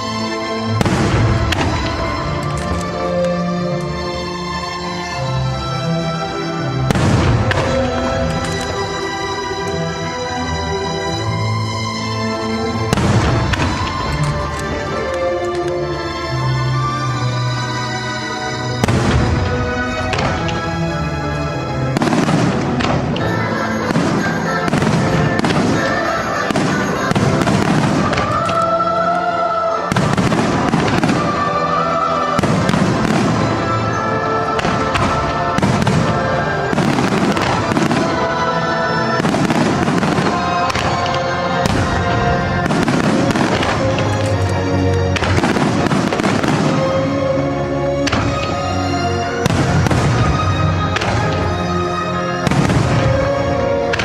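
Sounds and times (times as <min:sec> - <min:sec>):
fireworks bursting: 0:00.0 - 0:04.1, 0:06.8 - 0:10.6, 0:12.7 - 0:15.8, 0:18.6 - 0:54.0
music: 0:00.0 - 0:54.0.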